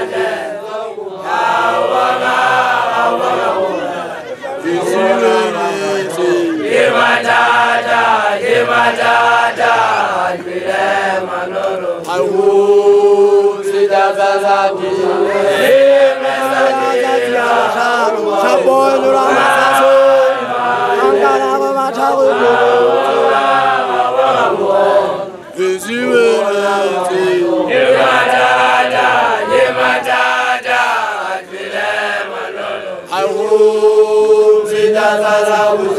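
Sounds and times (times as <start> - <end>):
voices chanting a song: 0.0 - 35.9.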